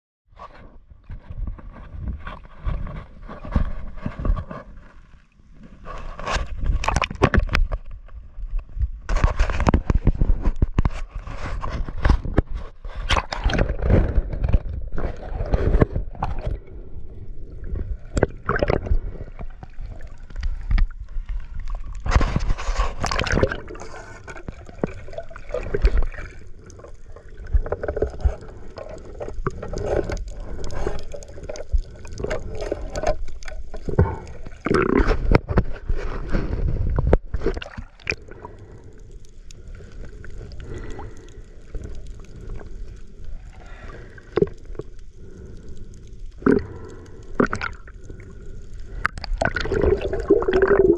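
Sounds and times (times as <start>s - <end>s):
water sloshing and gurgling: 0.4s - 50.9s
underwater bubbling: 2.5s - 50.9s.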